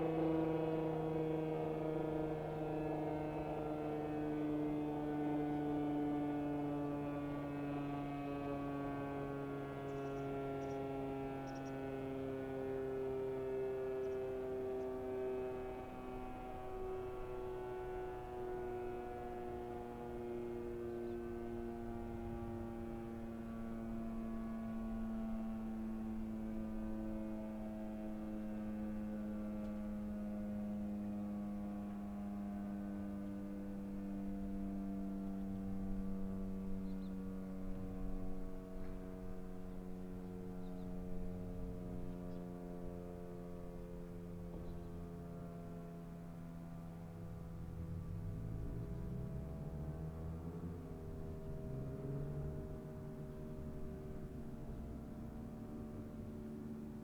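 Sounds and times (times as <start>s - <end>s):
motor siren winding down: 0.0s - 57.0s.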